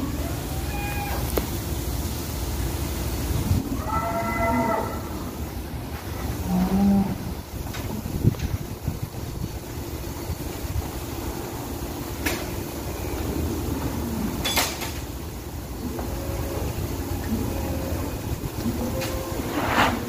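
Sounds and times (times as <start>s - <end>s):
low hum of machinery: 0.0s - 20.0s.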